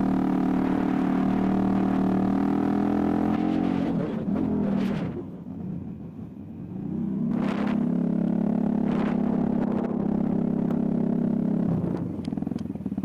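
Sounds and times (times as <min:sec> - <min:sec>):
motorcycle engine running: 0:00.0 - 0:04.5, 0:05.4 - 0:13.0.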